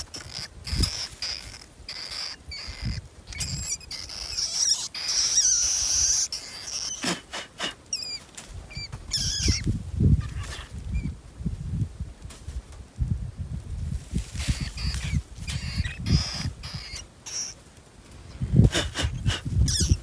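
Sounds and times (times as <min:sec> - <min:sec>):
rats squeaking: 0:00.0 - 0:11.2, 0:14.2 - 0:17.6, 0:18.2 - 0:20.0.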